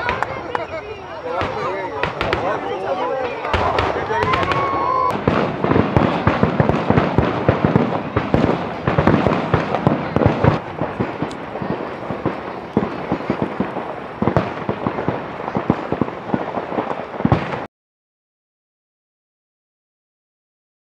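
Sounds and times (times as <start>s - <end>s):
fireworks bangs and crackles: 0.0s - 17.7s.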